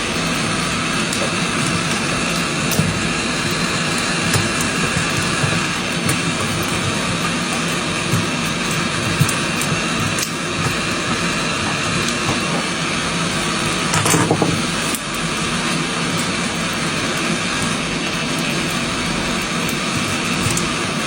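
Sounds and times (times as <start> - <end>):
blower or fan running: 0.0 - 21.0.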